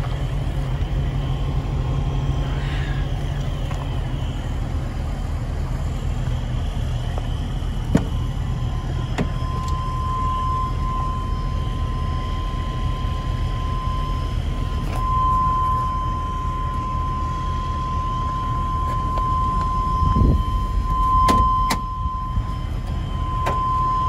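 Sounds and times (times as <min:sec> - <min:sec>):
steady high-pitched tone: 0:00.0 - 0:24.0
truck engine idling: 0:00.0 - 0:24.0.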